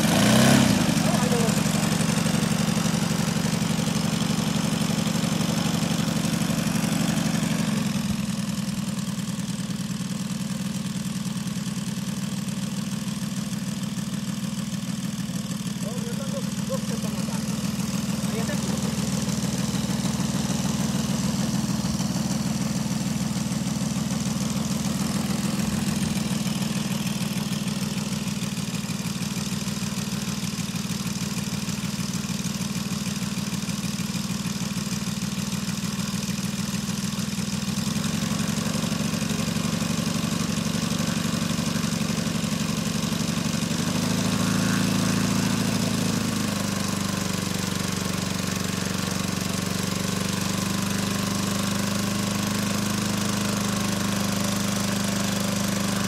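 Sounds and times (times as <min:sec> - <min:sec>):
model aircraft engine idling: 0:00.0 - 0:56.0.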